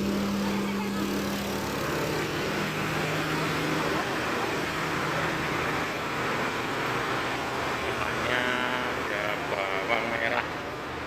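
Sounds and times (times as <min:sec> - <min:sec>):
engine humming: 0:00.0 - 0:11.0
street noise: 0:00.0 - 0:11.0.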